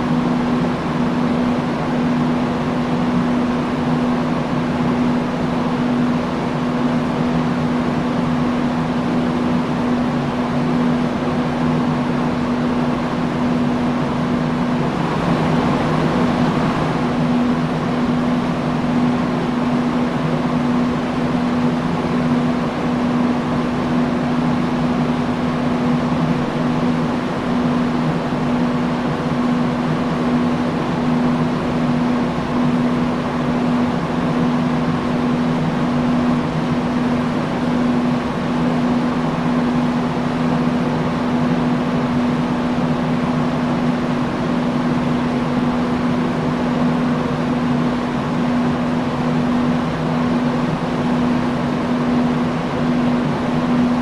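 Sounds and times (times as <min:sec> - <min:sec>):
fan air rushing: 0:00.0 - 0:54.0
low motor hum: 0:00.0 - 0:54.0.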